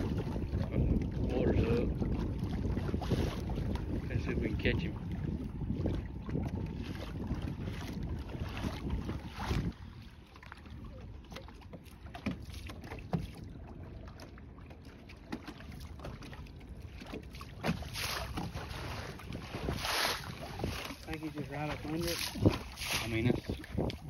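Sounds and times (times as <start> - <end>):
wind buffeting microphone: 0.0 - 14.6, 15.4 - 24.0
waves lapping against boat hull: 0.0 - 24.0.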